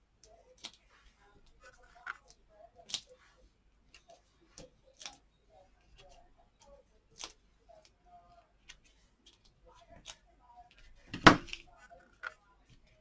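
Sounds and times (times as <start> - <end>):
light clicks and taps: 0.2 - 13.0.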